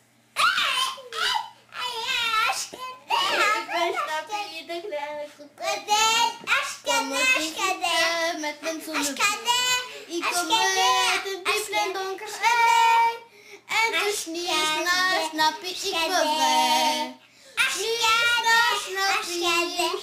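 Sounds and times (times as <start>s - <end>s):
child singing: 0.6s - 20.0s.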